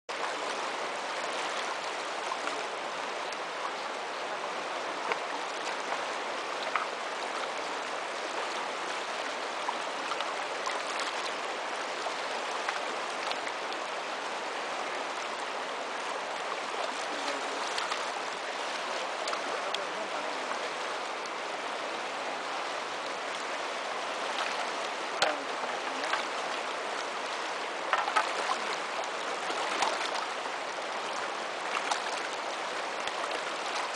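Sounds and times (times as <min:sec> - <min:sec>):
river rushing over rocks: 0:00.1 - 0:33.9.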